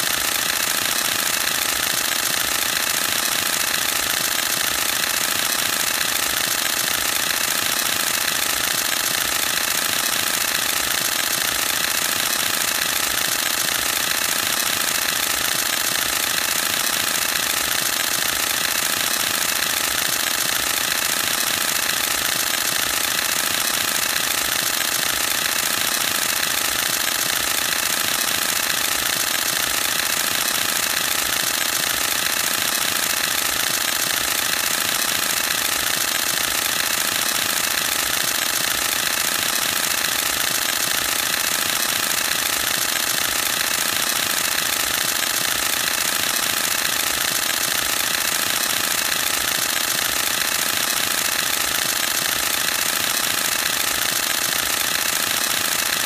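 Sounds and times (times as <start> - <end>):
camera shutter burst clicks: 0.0 - 56.0.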